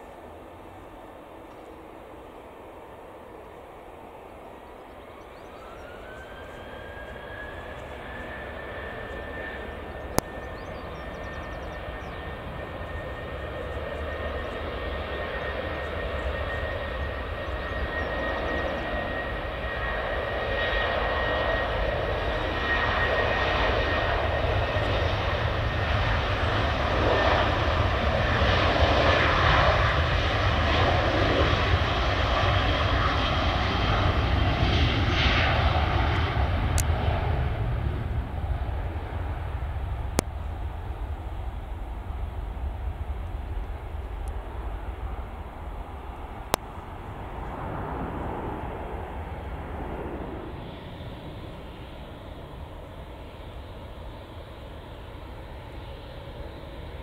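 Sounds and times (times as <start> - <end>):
jet engines spooling up: 0.0 - 57.0.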